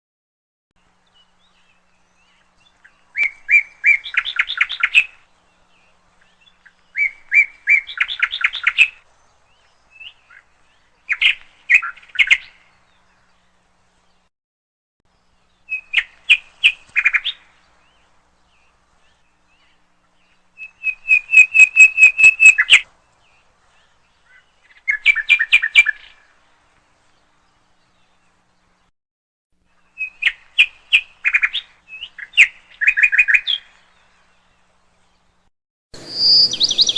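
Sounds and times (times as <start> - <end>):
lovebirds chirping: 0.8 - 14.3, 15.1 - 28.9, 29.7 - 36.9.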